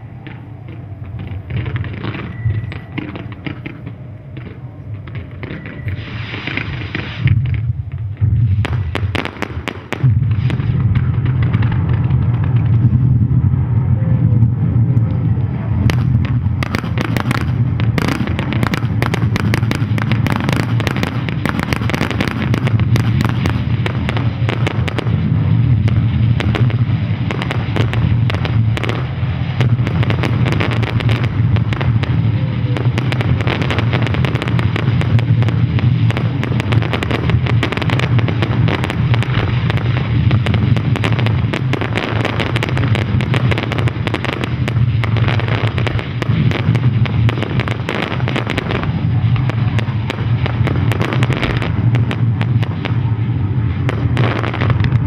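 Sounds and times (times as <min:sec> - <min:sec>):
fireworks bangs and crackling: 0:00.0 - 0:55.0
low rumble: 0:00.0 - 0:55.0.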